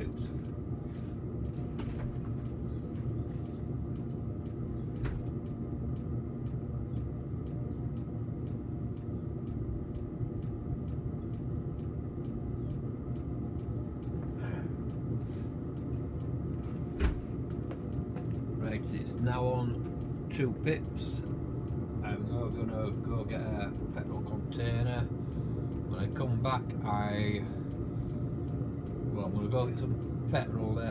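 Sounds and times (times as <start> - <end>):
faint regular ticking: 0.0 - 30.9
heater combustion and fan rumble: 0.0 - 30.9.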